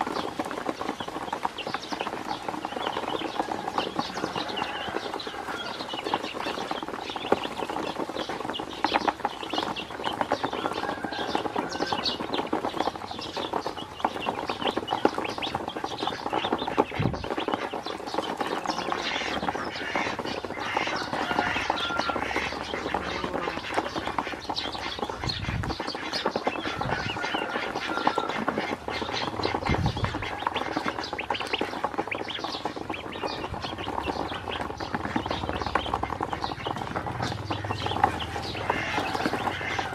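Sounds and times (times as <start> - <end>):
bills pecking on plastic: 0.0 - 39.9
ducklings peeping: 0.0 - 39.9.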